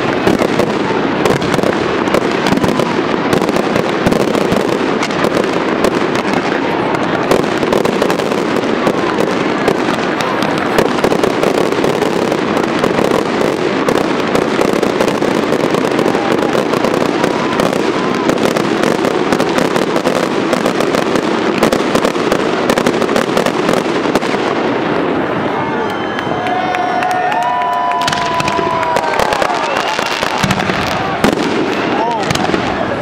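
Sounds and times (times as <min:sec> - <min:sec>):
fireworks crackling and popping: 0:00.0 - 0:33.0.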